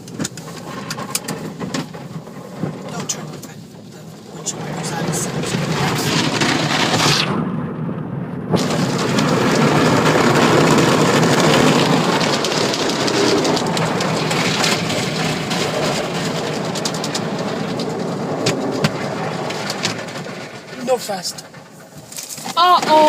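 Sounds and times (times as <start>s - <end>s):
car wash spraying water: 0.0s - 23.0s.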